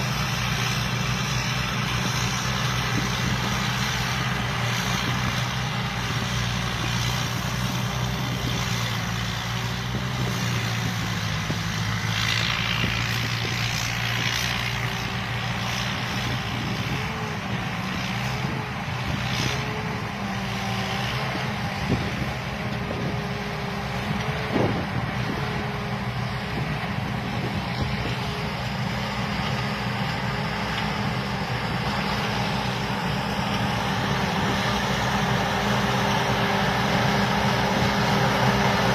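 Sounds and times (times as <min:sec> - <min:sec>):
combine harvester engine running: 0:00.0 - 0:38.9
high machinery whine: 0:00.0 - 0:38.9.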